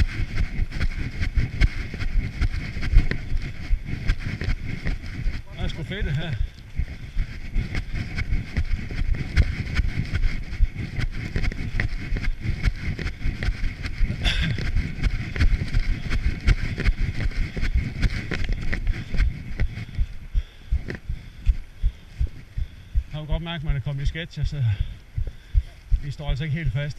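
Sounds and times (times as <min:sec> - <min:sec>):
wind noise on microphone: 0:00.0 - 0:26.9.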